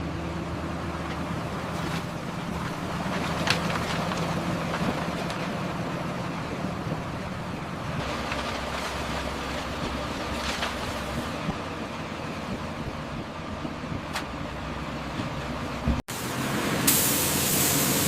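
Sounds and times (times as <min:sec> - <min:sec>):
machinery engine humming: 0:00.0 - 0:18.0.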